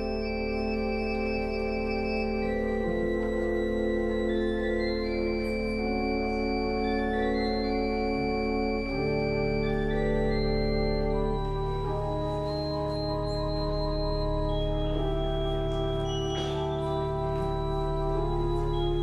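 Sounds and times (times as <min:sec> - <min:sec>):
church organ chords: 0:00.0 - 0:19.0.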